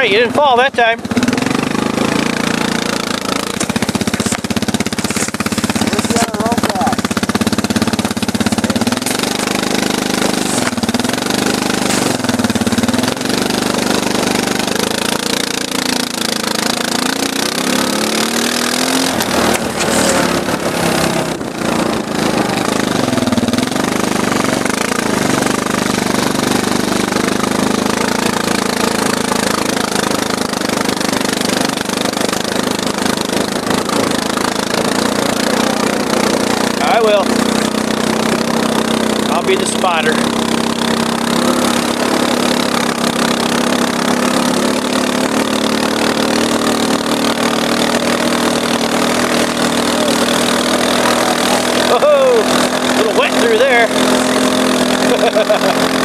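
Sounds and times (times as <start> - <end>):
atv engine running under load: 0.0 - 56.0.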